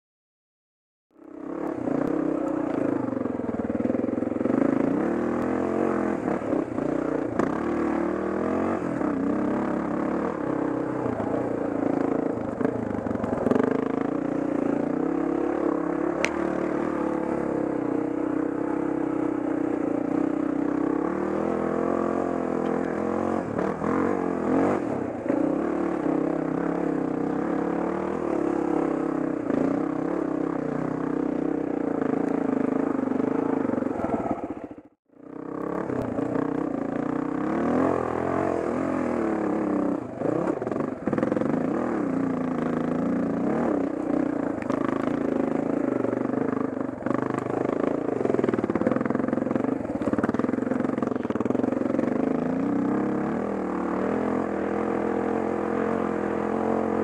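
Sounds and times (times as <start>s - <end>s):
dirt bike engine revving: 1.2s - 57.0s.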